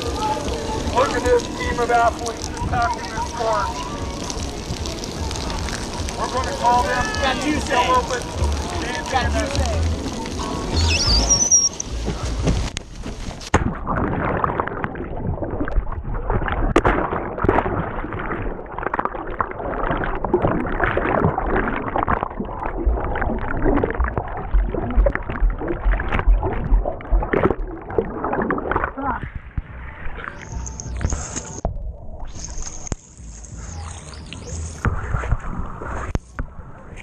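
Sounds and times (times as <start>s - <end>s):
muffled water sloshing and gurgling: 0.0s - 37.0s.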